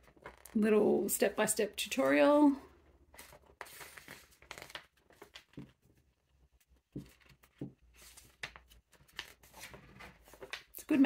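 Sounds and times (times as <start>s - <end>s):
magazine pages rustling: 0.0s - 0.6s, 1.9s - 11.0s.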